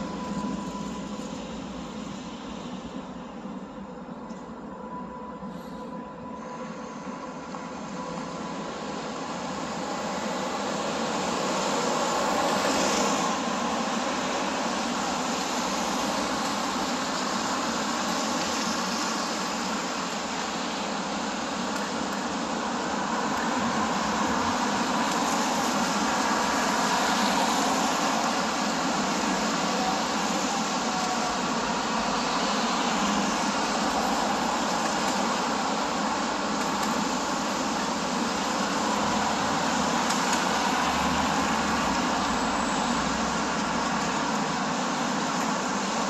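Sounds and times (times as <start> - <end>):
cars passing on wet road: 8.0 - 46.0.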